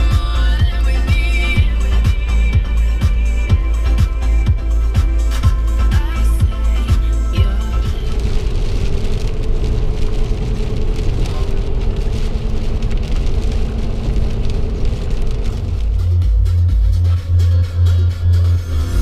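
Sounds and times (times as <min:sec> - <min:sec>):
low vehicle hum: 0:00.0 - 0:19.0
rain on windshield: 0:00.0 - 0:19.0
tyre noise on wet road: 0:00.0 - 0:19.0.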